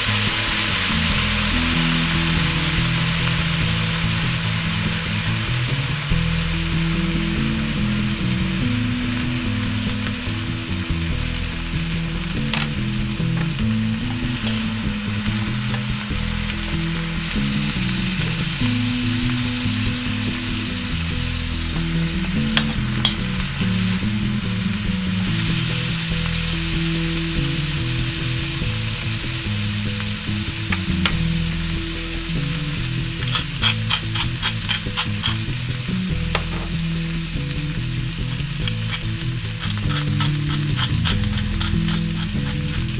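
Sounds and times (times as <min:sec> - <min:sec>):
background music with bass line: 0:00.0 - 0:42.9
food sizzling in a frying pan: 0:00.0 - 0:42.9.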